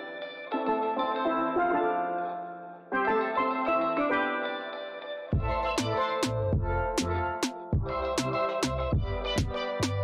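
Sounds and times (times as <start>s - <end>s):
instrumental music with ringing notes: 0.0s - 10.0s.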